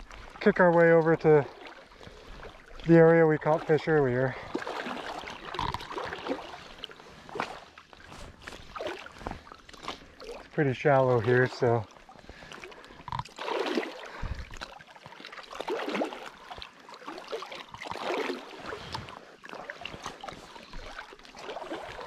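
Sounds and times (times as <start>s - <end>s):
water sloshing around float tube: 0.0s - 22.0s.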